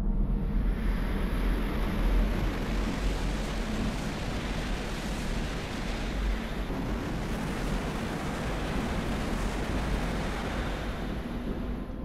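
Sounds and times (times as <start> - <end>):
train running at speed: 0.6 - 12.0.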